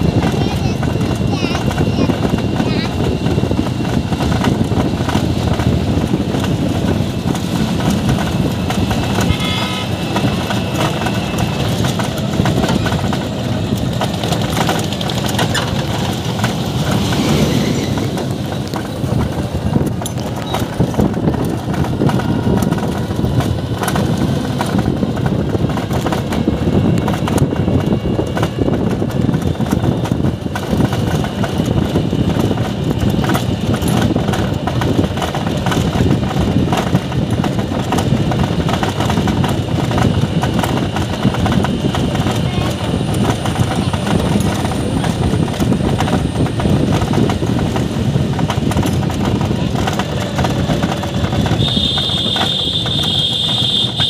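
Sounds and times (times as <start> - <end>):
wind and road rumble: 0.0 - 54.0.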